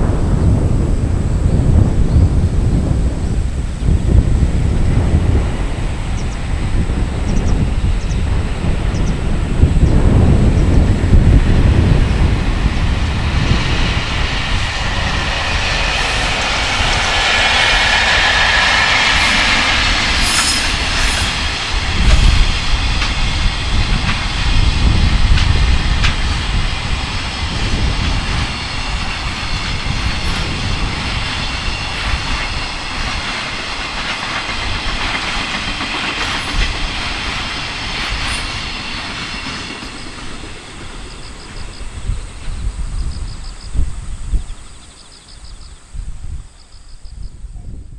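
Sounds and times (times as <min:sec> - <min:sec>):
freight train passing: 0:00.0 - 0:47.9
wind buffeting microphone: 0:00.0 - 0:47.9.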